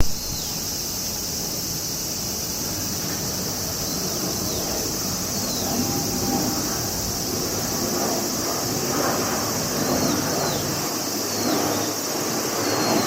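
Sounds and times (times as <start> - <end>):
insect chorus buzzing: 0.0 - 13.0
wind rumbling on microphone: 0.0 - 13.0.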